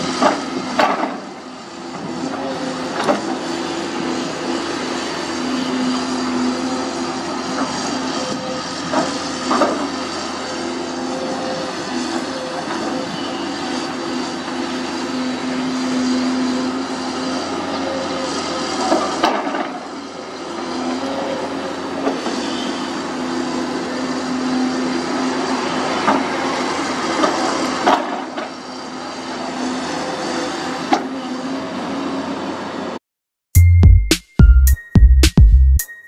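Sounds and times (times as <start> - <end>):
excavator diesel engine under load: 0.0 - 33.0.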